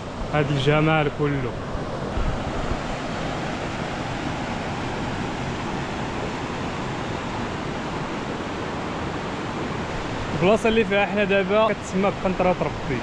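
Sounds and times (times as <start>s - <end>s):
fast-flowing river water rushing: 0.0s - 13.0s.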